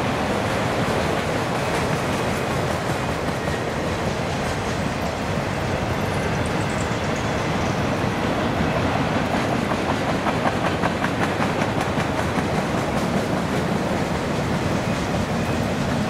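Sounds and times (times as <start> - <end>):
freight train wheels rumbling: 0.0 - 16.0
wheels clacking over rail joints: 0.0 - 16.0.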